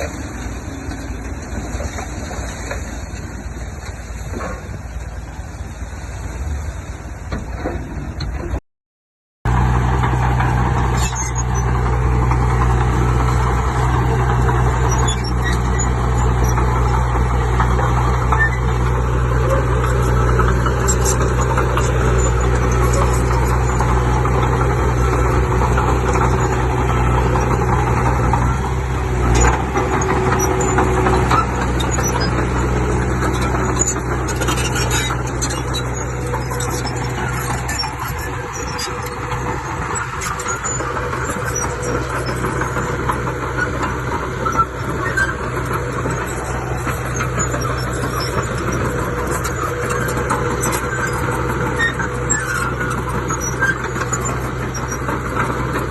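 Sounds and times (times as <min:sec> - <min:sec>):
diesel engine running: 0:00.0 - 0:08.6, 0:09.4 - 0:55.9.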